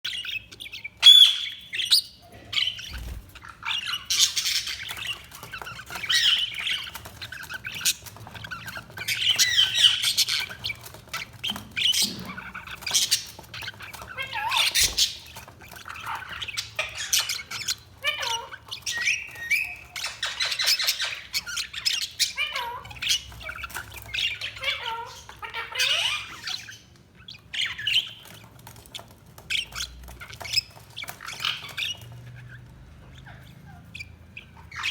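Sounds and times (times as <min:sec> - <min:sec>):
budgerigars chirping and squawking: 0:00.0 - 0:34.9.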